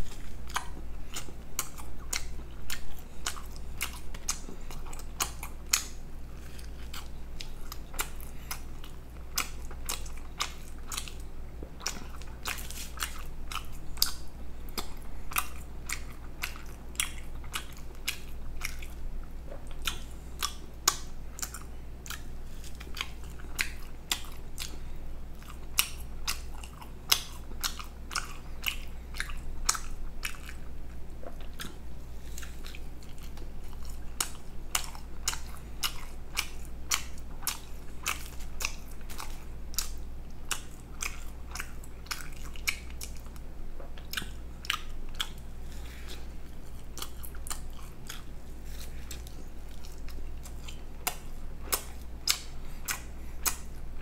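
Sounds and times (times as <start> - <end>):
person chewing food: 0.0 - 54.0
steady low hum: 0.0 - 54.0.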